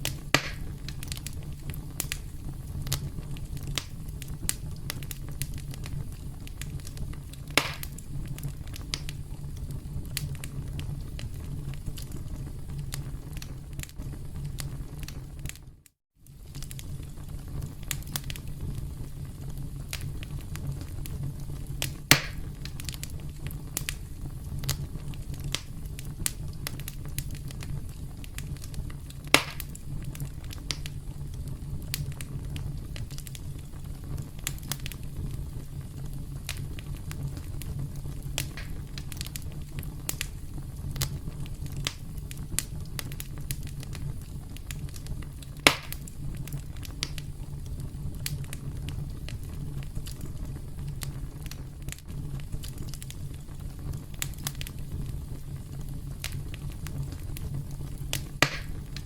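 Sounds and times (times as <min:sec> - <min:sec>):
burning wood popping: 0:00.0 - 0:59.0
campfire crackling: 0:00.0 - 0:59.0
low rumble of flames: 0:00.0 - 0:59.0.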